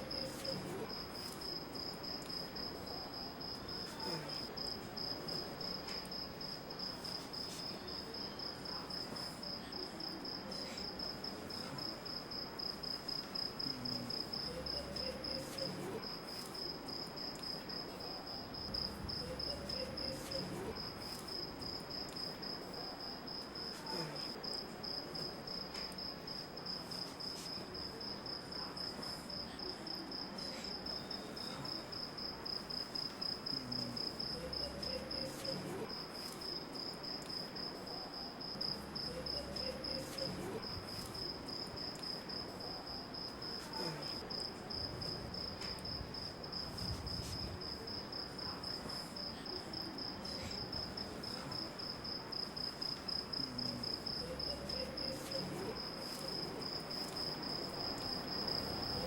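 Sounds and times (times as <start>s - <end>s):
cricket chirping: 0.0s - 59.0s
faint background noise: 0.0s - 59.0s.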